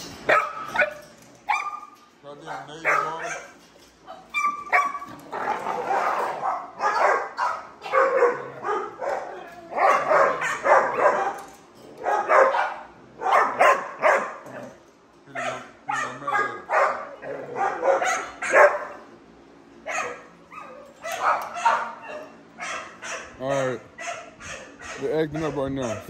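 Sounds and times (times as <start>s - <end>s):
dogs barking: 0.2s - 19.2s, 19.8s - 26.0s.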